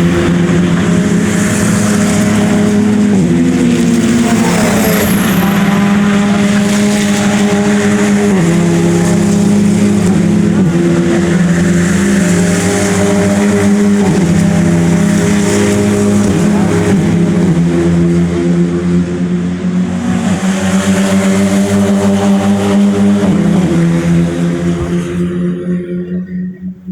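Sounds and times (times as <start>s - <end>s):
race car engine running hard: 0.0s - 26.9s.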